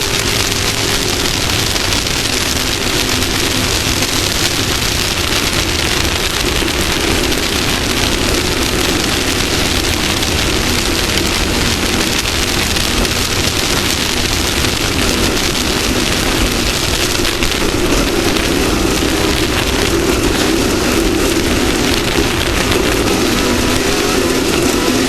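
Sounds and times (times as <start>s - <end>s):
engine drone: 0.0s - 25.0s
loud rushing noise: 0.0s - 25.0s.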